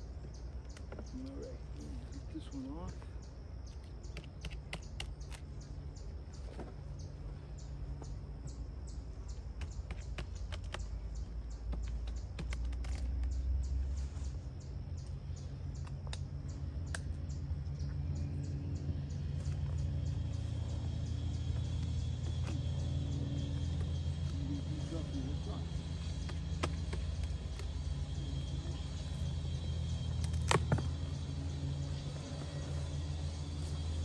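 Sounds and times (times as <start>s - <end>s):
bird chirping: 0.0s - 34.0s.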